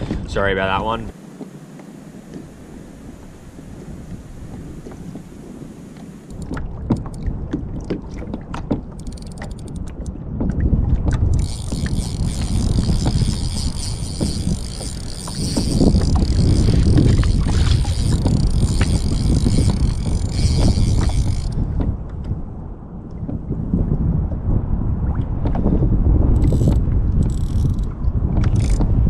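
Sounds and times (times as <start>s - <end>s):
water sloshing around kayak: 0.0s - 24.1s
wind rumbling on microphone: 0.0s - 29.0s.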